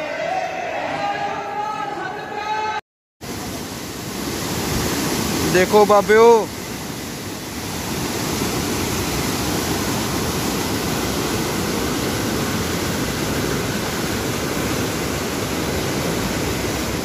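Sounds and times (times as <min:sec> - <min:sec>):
river water rushing: 0:03.2 - 0:17.0.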